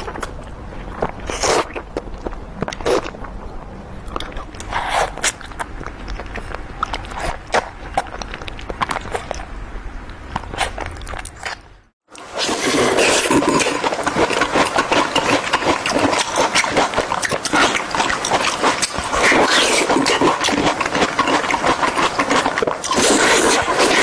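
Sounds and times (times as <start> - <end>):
crunching and chewing fruit: 0.0 - 24.0.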